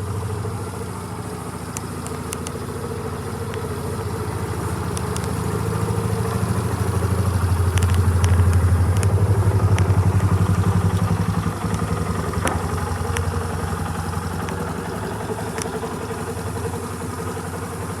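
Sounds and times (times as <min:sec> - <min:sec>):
scooter engine idling: 0:00.0 - 0:18.0
light clicks: 0:01.5 - 0:16.0.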